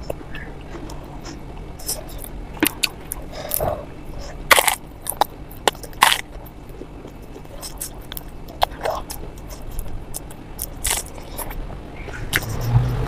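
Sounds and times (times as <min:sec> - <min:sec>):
wet chewing and lip smacks: 0:00.0 - 0:12.8
crunchy bites: 0:00.0 - 0:13.0.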